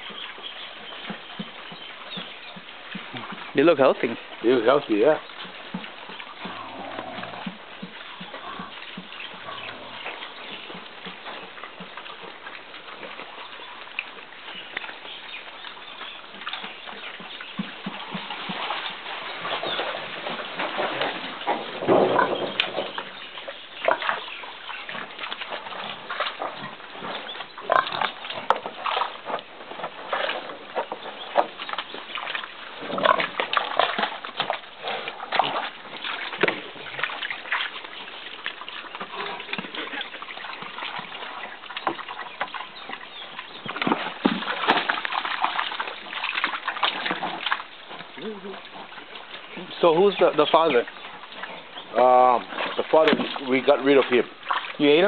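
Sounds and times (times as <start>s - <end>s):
pigs grunting and squealing: 4.6s - 12.1s, 17.6s - 55.0s.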